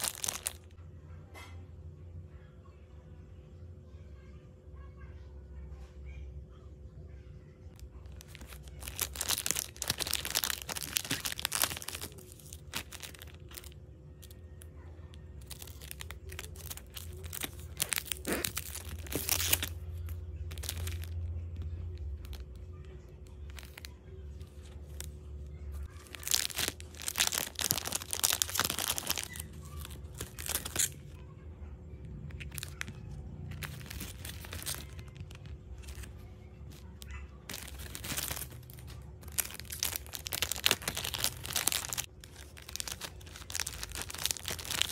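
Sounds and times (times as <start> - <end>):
plastic packaging crinkling: 0.0 - 0.7, 7.8 - 14.4, 15.3 - 31.2, 32.2 - 44.9.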